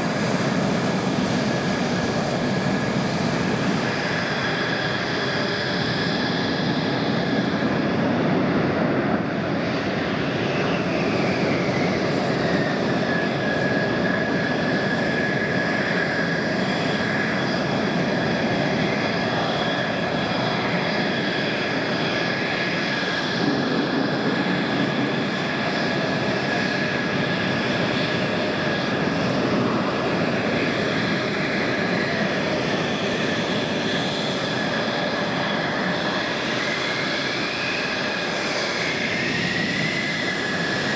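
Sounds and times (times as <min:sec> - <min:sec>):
jet engine whine and rush: 0:00.0 - 0:40.9.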